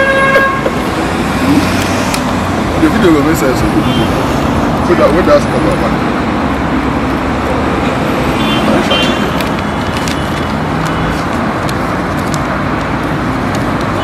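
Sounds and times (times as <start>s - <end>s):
street traffic noise: 0.0s - 14.0s.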